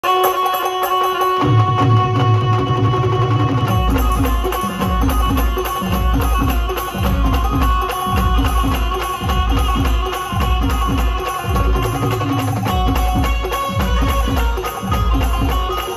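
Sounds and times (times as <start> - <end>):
live band music over speakers: 0.0 - 15.9.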